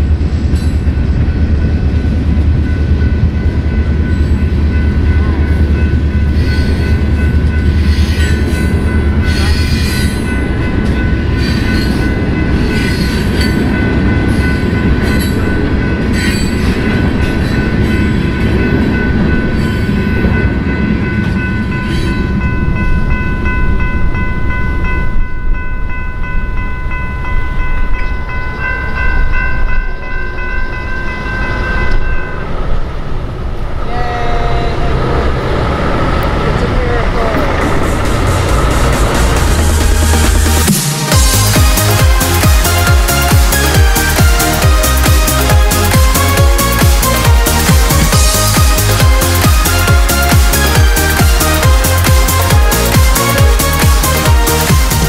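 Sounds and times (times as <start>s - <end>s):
crossing warning bell ringing: 0.0s - 55.0s
train wheels rumbling and clattering: 0.0s - 55.0s.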